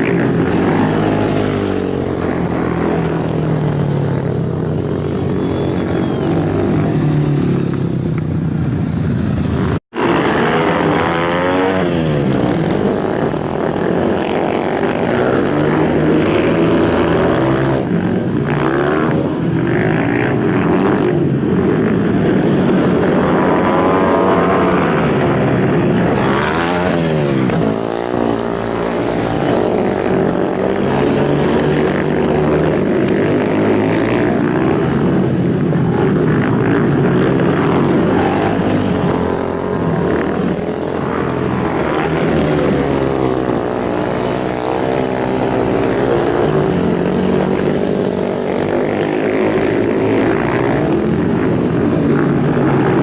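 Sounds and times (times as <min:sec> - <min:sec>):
racing motorcycles passing: 0:00.0 - 0:53.0.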